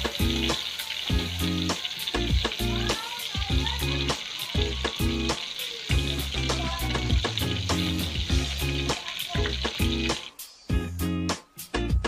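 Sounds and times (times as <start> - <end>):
broth boiling in a metal wok: 0.0 - 10.4
background music: 0.0 - 12.0.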